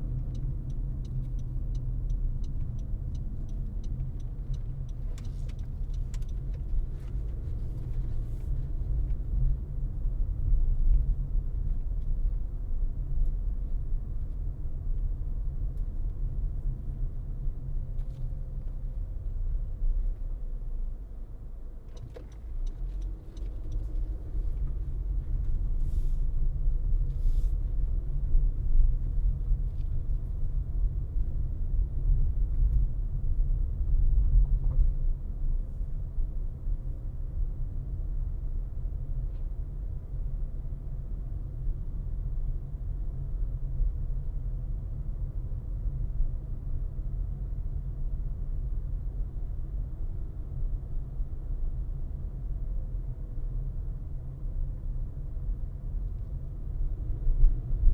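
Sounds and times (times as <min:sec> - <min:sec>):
car road and tyre noise: 0:00.0 - 0:57.9.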